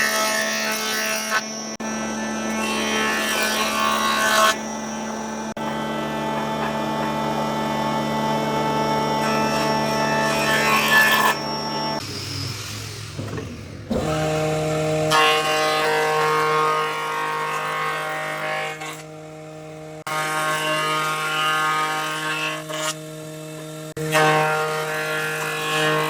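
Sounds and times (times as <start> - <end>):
power tool running on wood: 0.0 - 26.0.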